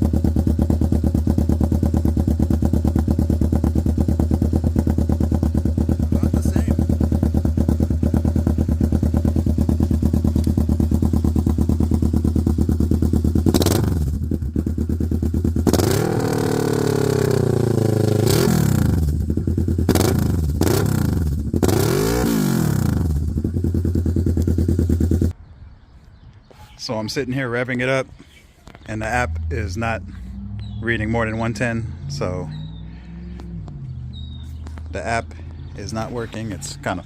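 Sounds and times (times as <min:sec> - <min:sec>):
motorcycle engine idling and revving: 0:00.0 - 0:25.4, 0:28.6 - 0:37.0.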